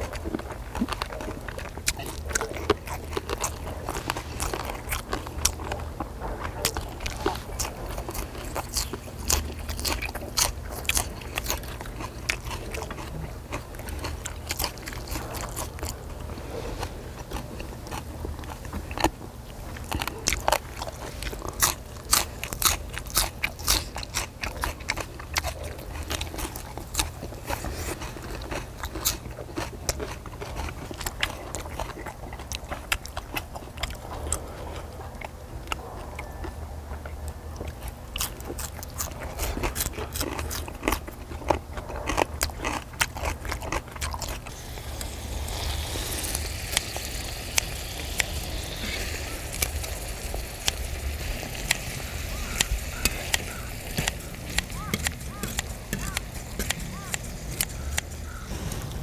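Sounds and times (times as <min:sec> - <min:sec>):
chewing and crunchy bites: 0:00.0 - 0:59.0
steady low hum: 0:00.0 - 0:59.0.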